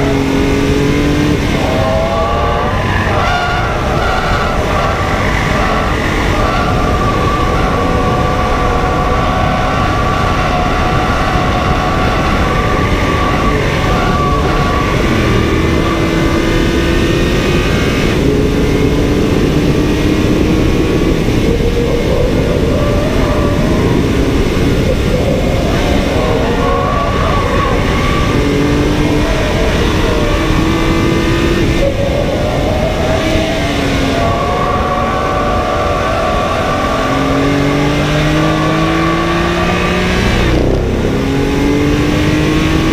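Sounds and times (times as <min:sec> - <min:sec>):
car engine accelerating and shifting: 0:00.0 - 0:42.9
road and wind noise: 0:00.0 - 0:42.9.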